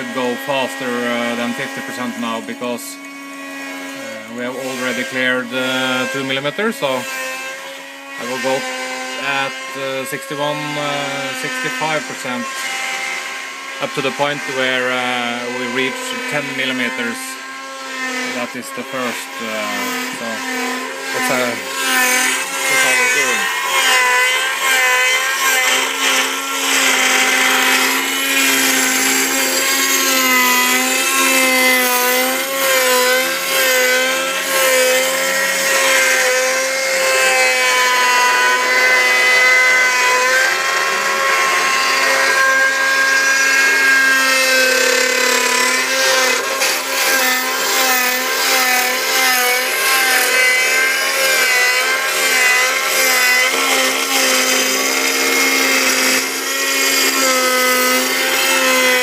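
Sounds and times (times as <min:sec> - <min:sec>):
end mill cutting wood: 0:00.0 - 0:59.0
router spindle whining: 0:00.0 - 0:59.0.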